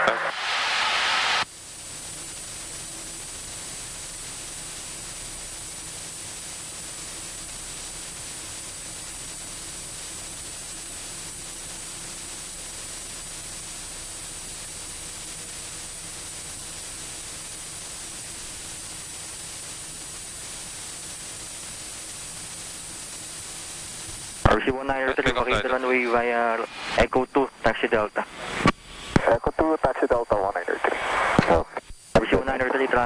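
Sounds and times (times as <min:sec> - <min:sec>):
faint steady hum: 0:00.0 - 0:33.0
intercom audio hiss: 0:00.0 - 0:33.0.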